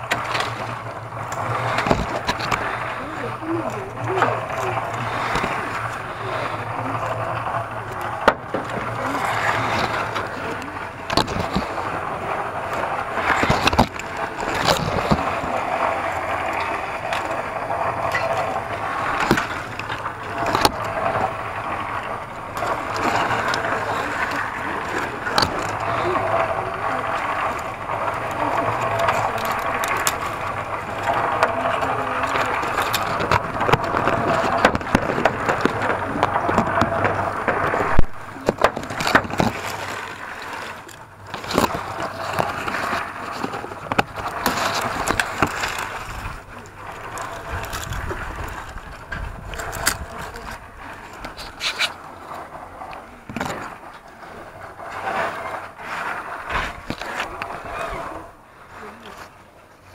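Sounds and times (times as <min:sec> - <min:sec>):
handling clicks and scrapes: 0:00.0 - 0:59.4
leaves and twigs rustling: 0:01.2 - 0:59.3.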